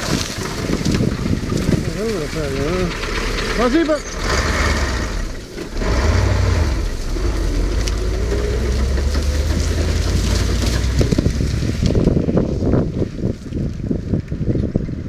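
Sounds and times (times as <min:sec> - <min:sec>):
farm vehicle engine rumbling: 0:00.0 - 0:15.0.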